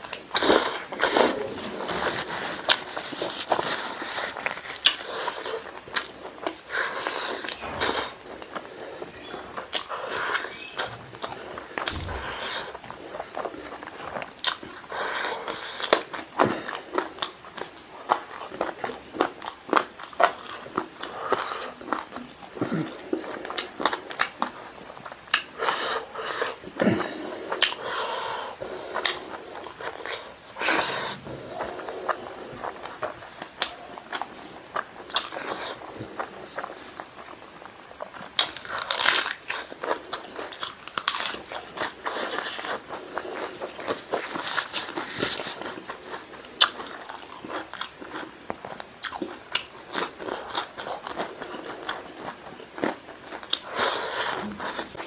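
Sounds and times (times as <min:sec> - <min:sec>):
wet chewing and smacking: 0:00.0 - 0:55.0.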